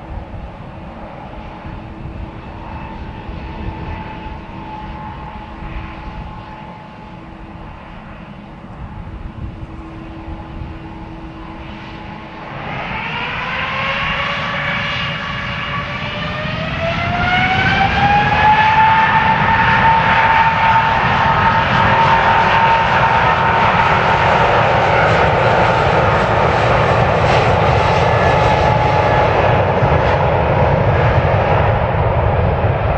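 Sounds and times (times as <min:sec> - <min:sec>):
jet engines rumbling and whining: 0:00.0 - 0:32.9.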